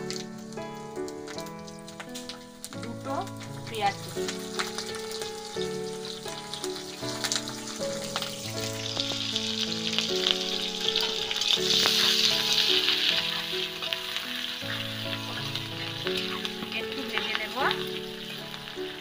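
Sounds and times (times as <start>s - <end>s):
food sizzling in hot oil: 0.0s - 19.0s
soft background music: 0.0s - 19.0s.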